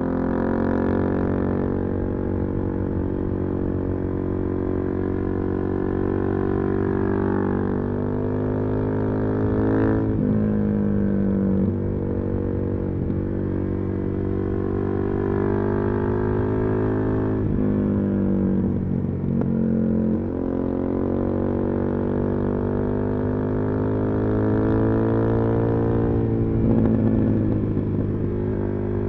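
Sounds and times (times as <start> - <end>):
motorcycle engine while riding: 0.0 - 29.0.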